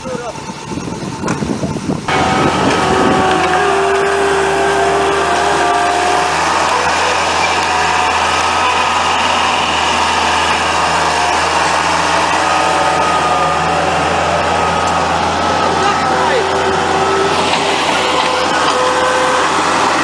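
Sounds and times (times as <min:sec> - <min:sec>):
high whine: 0:00.0 - 0:20.0
loader engine running: 0:00.0 - 0:20.0.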